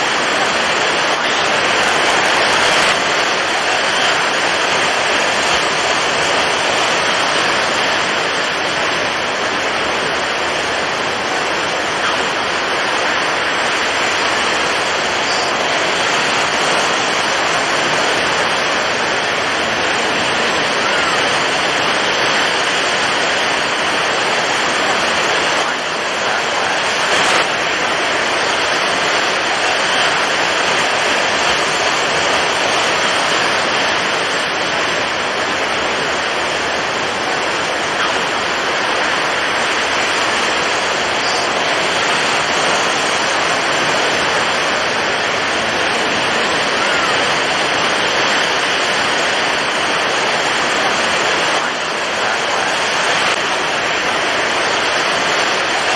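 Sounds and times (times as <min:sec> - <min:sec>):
heavy waves breaking: 0:00.0 - 0:55.9
strong wind blowing: 0:00.0 - 0:55.9.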